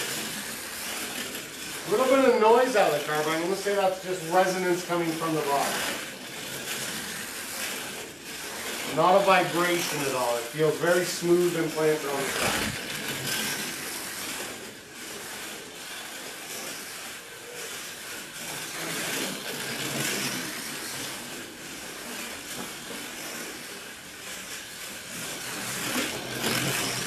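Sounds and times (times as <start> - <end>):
slot car motor whining: 0.0 - 27.0.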